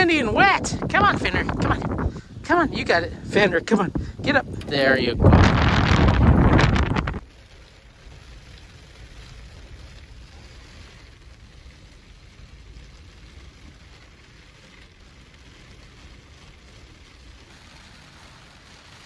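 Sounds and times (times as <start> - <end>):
storm wind and snow rumble: 0.0 - 19.0.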